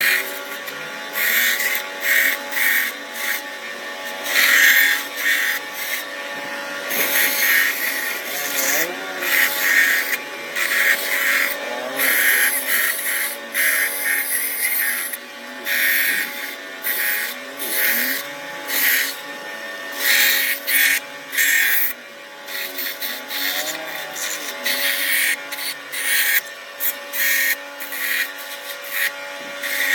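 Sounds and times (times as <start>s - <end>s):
bandsaw motor hum: 0.0s - 29.9s
saw blade rasping through wood: 0.0s - 29.9s.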